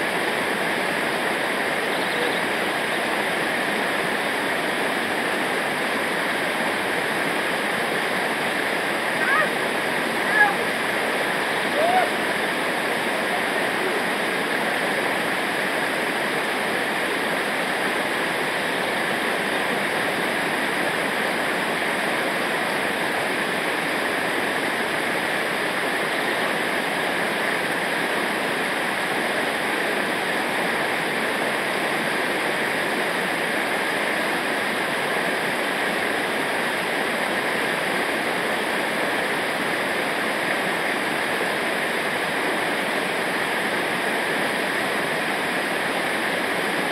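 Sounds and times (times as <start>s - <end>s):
water rushing over rocks: 0.0s - 46.9s.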